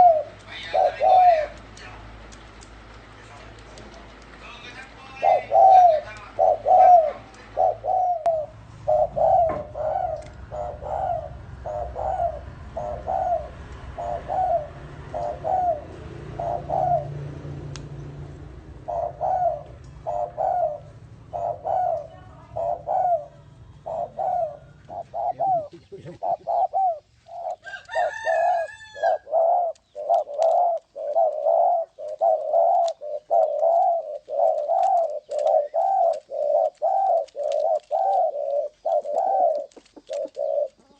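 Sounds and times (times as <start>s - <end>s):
doves cooing: 0.0s - 40.9s
higher bird chirp: 4.7s - 17.2s, 18.7s - 40.9s.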